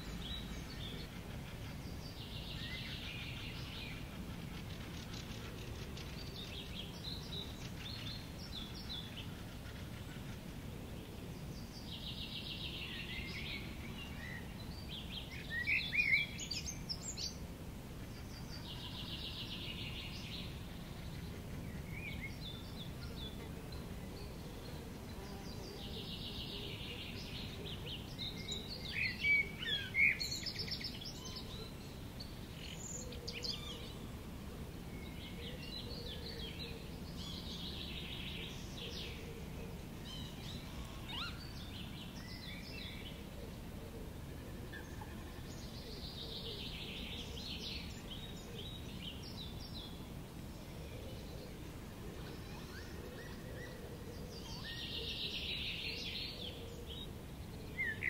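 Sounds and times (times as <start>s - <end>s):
birds chirping: 0.0s - 58.0s
wind: 0.0s - 58.0s.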